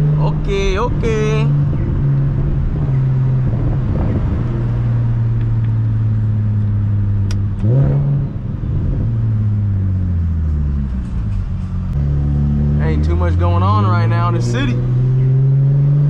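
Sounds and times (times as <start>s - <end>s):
car engine and exhaust droning: 0.0s - 16.0s.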